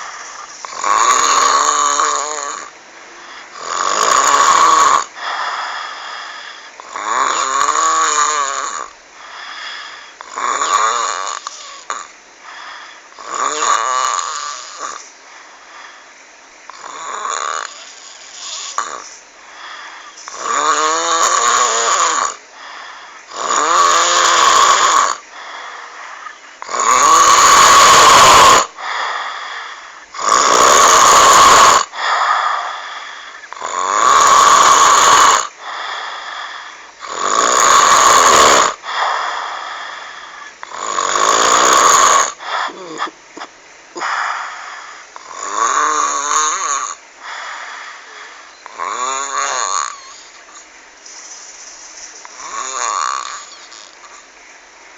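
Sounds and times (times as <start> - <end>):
person snoring with croaking rasp: 0.0 - 16.0, 16.7 - 54.3.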